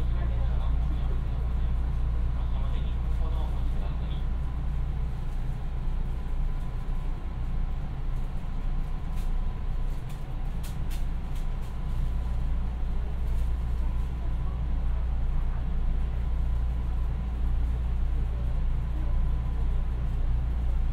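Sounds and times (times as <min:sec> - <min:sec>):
train rumbling inside carriage: 0:00.0 - 0:20.9.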